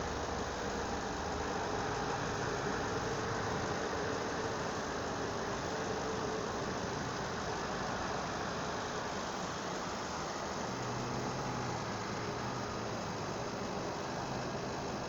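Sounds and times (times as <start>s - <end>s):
highway vehicle noise: 0.0s - 15.0s.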